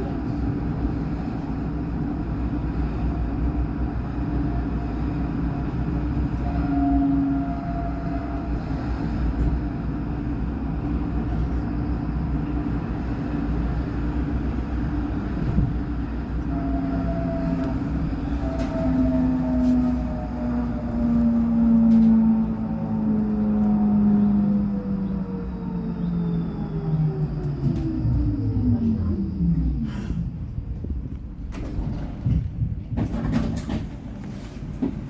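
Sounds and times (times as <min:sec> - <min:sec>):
tram drive hum: 0:00.0 - 0:35.0
tram wheels rumbling on rail: 0:00.0 - 0:35.0.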